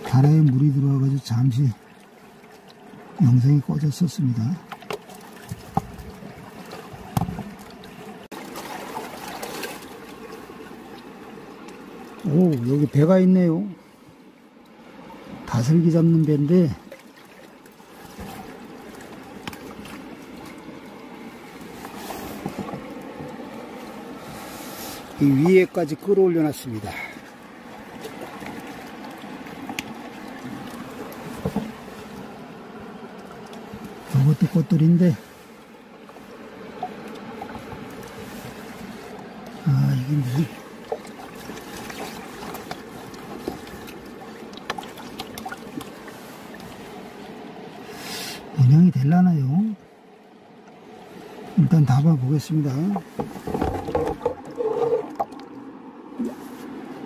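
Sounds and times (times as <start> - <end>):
river water flowing over stones: 0.0 - 13.6, 14.7 - 49.4, 50.4 - 57.0.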